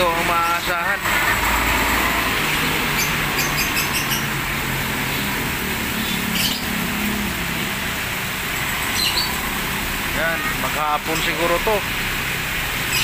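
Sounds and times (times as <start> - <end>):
rain hissing: 0.0 - 13.0
vehicles passing through water: 0.0 - 13.0
wet tyres hissing: 0.0 - 13.0.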